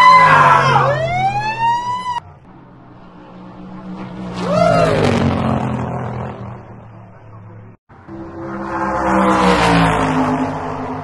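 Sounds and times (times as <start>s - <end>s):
bus engine passing by: 0.3s - 11.0s.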